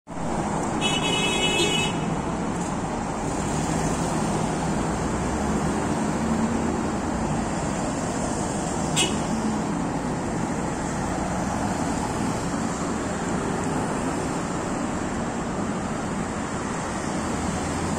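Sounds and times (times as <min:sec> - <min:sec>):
cars driving past: 0:00.1 - 0:17.9.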